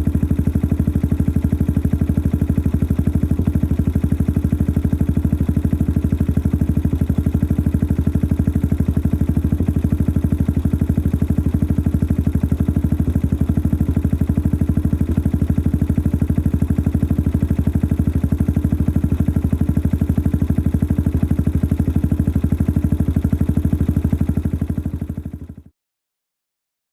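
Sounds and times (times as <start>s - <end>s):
motorcycle engine idling: 0.0s - 25.7s.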